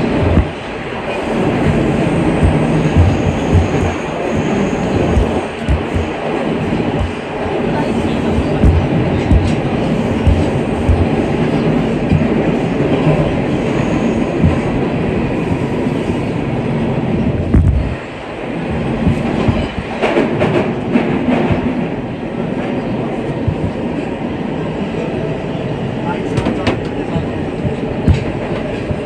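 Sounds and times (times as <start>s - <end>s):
wheels clacking over rail joints: 0.0s - 24.1s, 26.2s - 29.0s
subway train running through tunnel: 0.0s - 29.0s.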